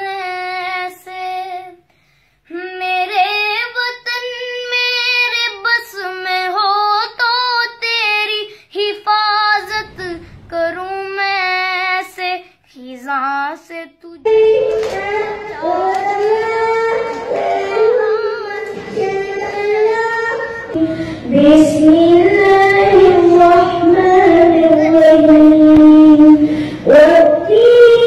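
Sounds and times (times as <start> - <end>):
girls singing without instruments: 2.5 - 28.0.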